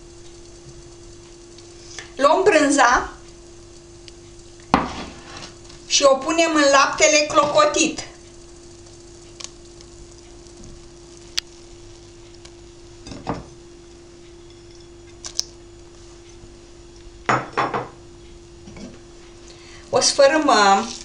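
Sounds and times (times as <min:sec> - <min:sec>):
low hum: 0:00.0 - 0:17.3.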